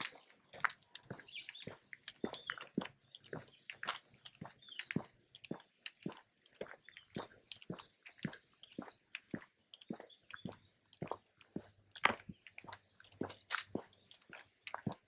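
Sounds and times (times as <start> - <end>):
footsteps crunching on a path: 0.0 - 15.0.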